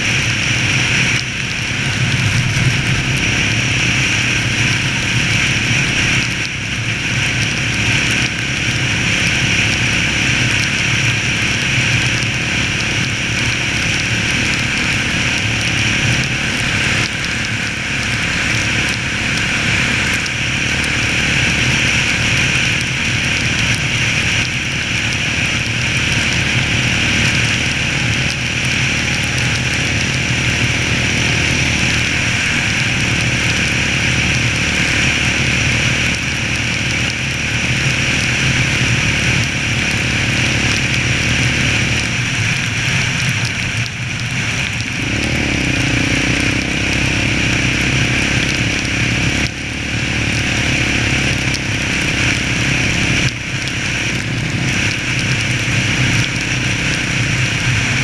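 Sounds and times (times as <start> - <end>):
quad bike engine cruising: 0.0 - 58.0
wind and road noise: 0.0 - 58.0.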